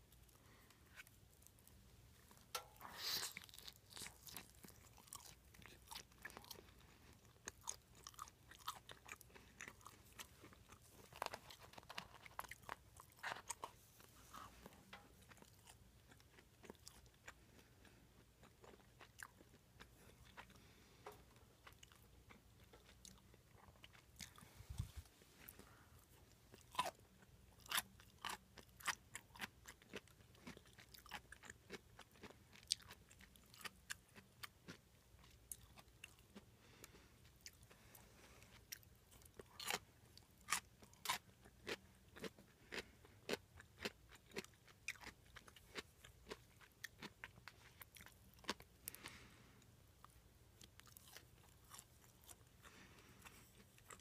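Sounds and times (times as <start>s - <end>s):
food crunching while chewing: 0.1s - 49.4s, 50.6s - 54.0s.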